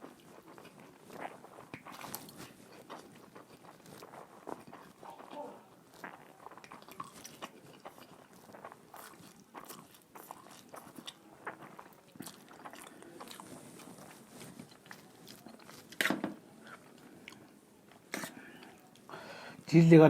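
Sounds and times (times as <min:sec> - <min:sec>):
person chewing and slurping food: 0:00.0 - 0:19.2.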